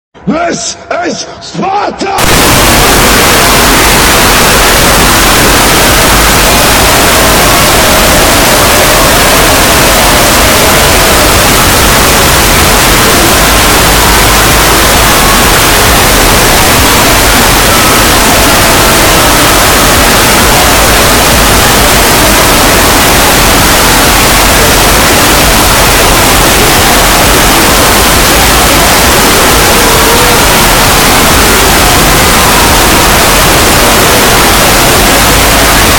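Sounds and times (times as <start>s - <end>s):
loud static noise: 2.0s - 35.9s.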